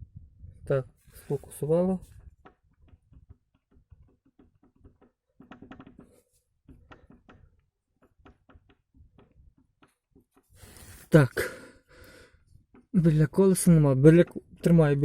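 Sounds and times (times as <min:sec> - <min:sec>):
drive shaft knocking and clicking: 0:02.0 - 0:10.6, 0:11.4 - 0:15.0.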